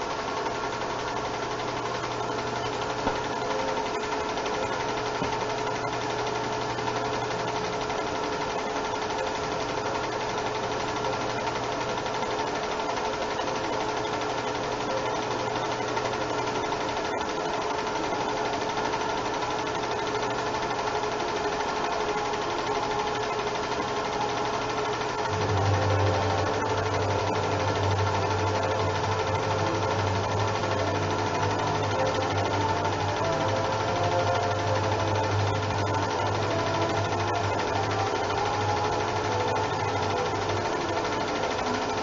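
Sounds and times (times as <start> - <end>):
film projector whirring: 0.0 - 42.0.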